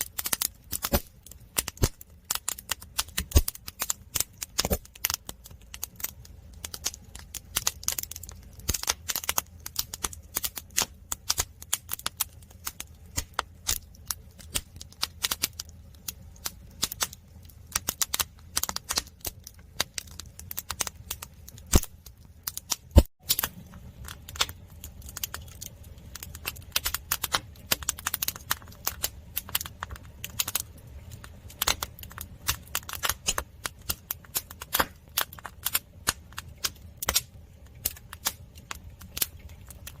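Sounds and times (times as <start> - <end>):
fire rumble: 0.0 - 40.0
firewood crackling and popping: 0.0 - 40.0.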